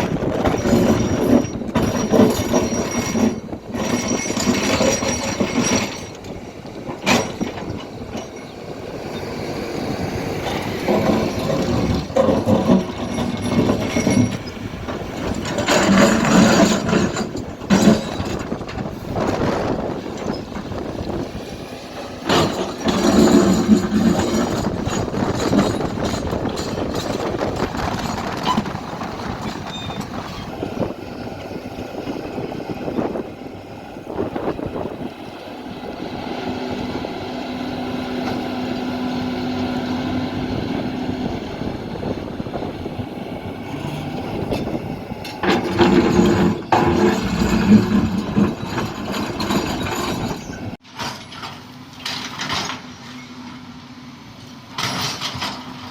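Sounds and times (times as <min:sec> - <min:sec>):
heavy machinery diesel engine: 0:00.0 - 0:55.9.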